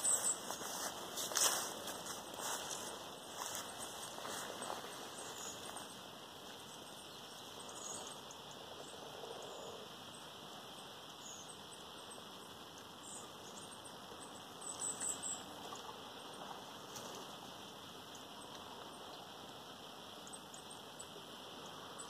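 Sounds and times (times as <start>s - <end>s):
small birds chirping: 0.0s - 22.0s
steady outdoor hiss: 0.0s - 22.0s.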